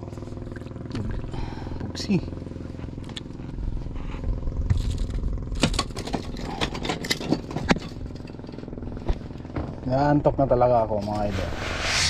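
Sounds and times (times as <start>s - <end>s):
small boat engine running: 0.0s - 10.5s.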